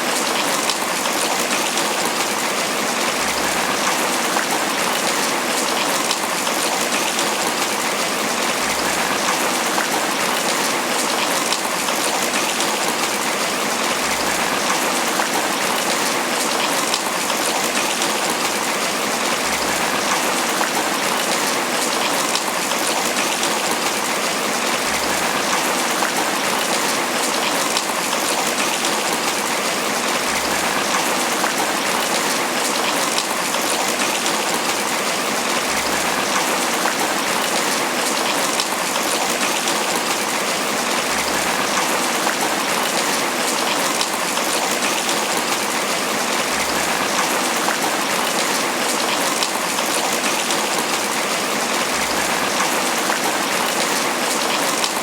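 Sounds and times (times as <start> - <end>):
heavy rain on banana leaves: 0.0 - 55.0.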